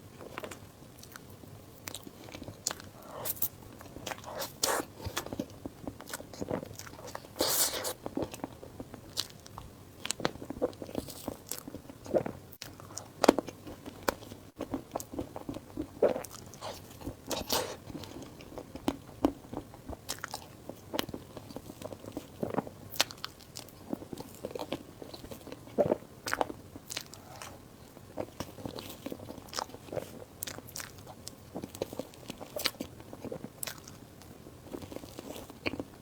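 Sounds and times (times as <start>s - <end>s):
biting and chewing food: 0.2s - 36.0s.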